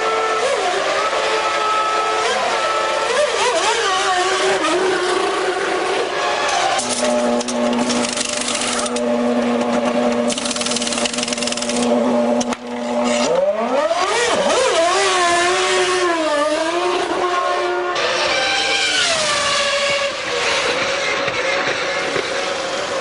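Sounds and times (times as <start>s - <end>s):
racing car engine revving: 0.0s - 23.0s.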